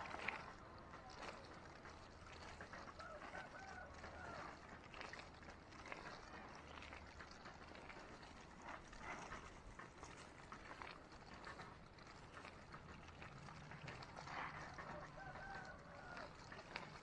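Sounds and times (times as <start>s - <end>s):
water sprinkling onto soil: 0.0s - 17.0s.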